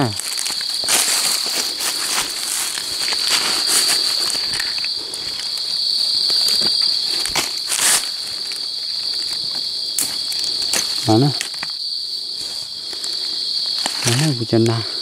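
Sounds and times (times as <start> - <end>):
dry leaves rustling: 0.0 - 14.6
night insects chirring: 0.0 - 15.0.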